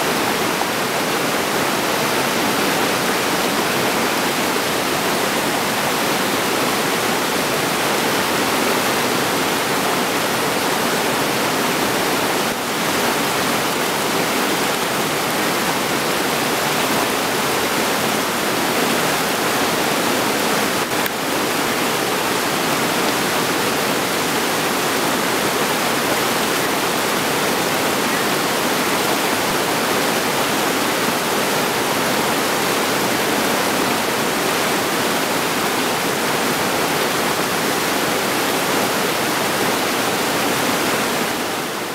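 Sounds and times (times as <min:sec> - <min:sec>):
river rapids rushing over rocks: 0:00.0 - 0:41.9.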